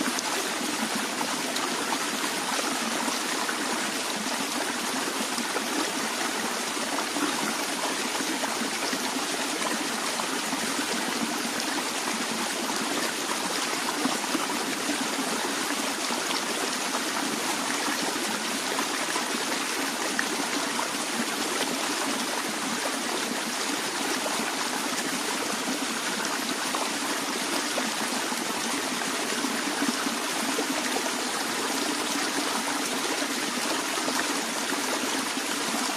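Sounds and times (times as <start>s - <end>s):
stream trickling over stones: 0.0s - 35.9s.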